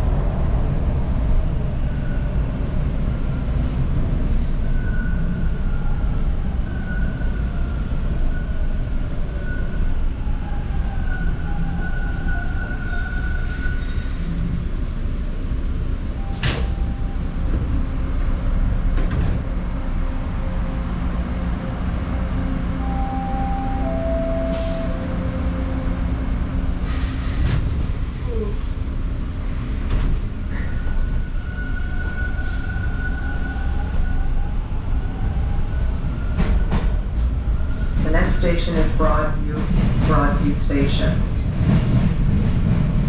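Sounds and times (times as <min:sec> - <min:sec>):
subway train rumbling: 0:00.0 - 0:43.0.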